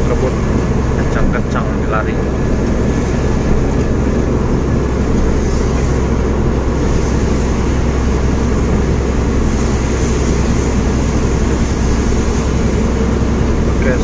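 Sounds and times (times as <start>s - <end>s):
truck diesel engine rumble: 0.0s - 14.0s
tyre and rain hiss: 0.0s - 14.0s.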